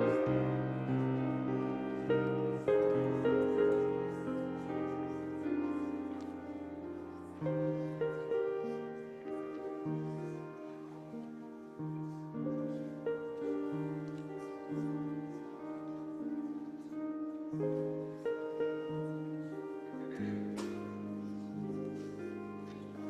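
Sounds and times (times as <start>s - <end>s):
slow piano chords and melody: 0.0s - 23.0s.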